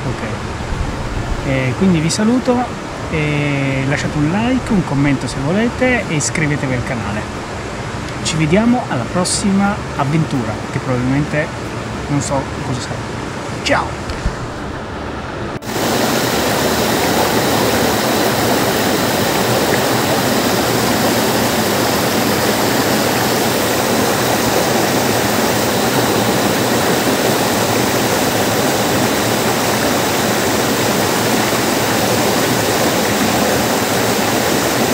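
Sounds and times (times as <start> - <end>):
mountain stream rushing: 0.0 - 34.9.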